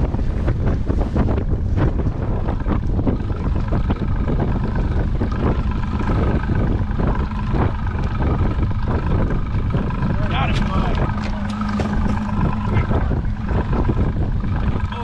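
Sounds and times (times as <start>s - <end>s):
faint boat motor hum: 0.0s - 15.0s
wind buffeting microphone: 0.0s - 15.0s.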